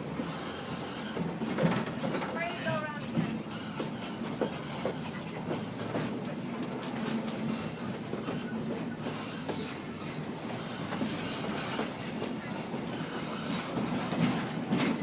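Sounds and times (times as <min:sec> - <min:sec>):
steam train low hum: 0:00.0 - 0:15.0.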